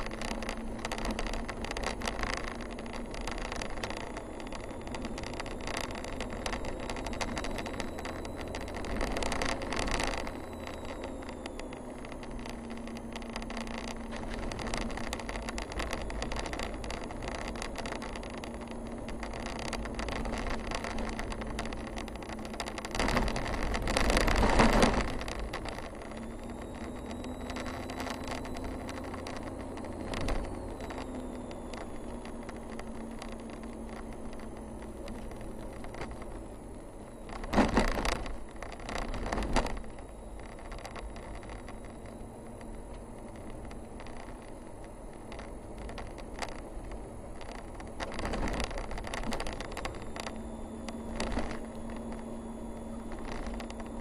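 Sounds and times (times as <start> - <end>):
car engine hum: 0.0 - 54.0
car jolting over bumps: 0.0 - 54.0.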